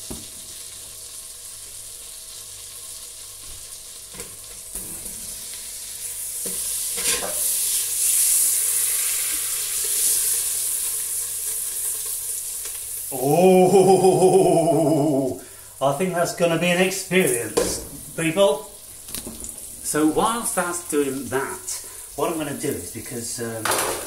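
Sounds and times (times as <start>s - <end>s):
mushrooms sizzling in oil: 0.0s - 24.0s.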